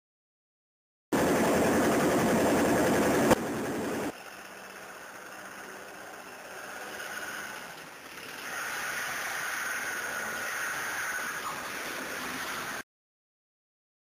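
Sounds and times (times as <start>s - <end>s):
car engine running: 1.2s - 12.8s.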